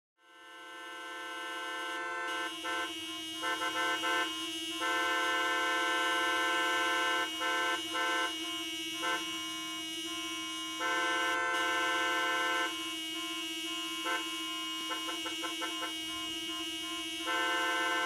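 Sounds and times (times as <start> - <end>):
car horn honking: 0.2 - 18.0.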